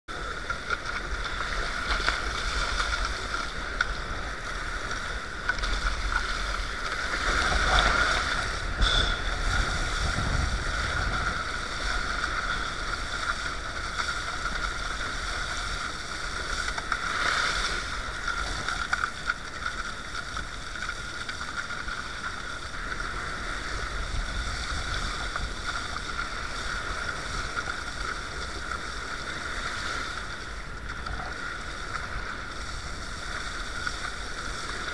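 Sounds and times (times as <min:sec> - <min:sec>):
water splashing along kayak hull: 0:00.1 - 0:34.9
wind buffeting microphone: 0:00.6 - 0:21.2, 0:21.8 - 0:34.9.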